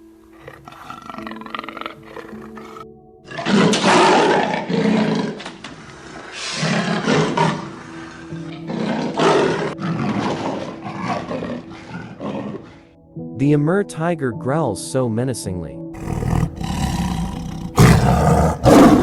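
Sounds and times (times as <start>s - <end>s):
background music: 0.0s - 19.0s
leopard growling: 0.3s - 12.9s, 16.0s - 19.0s.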